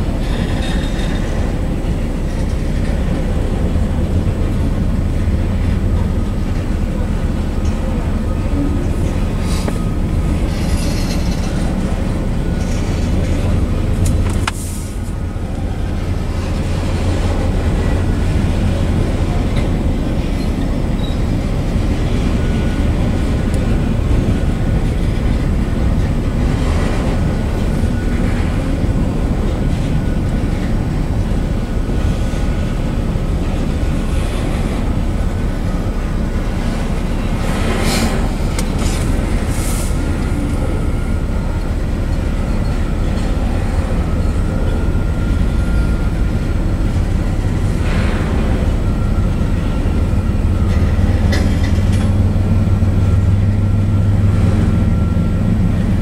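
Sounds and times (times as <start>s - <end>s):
freight car clanks and rattles: 0.0s - 56.0s
steel wheels rumbling on rail: 0.0s - 56.0s.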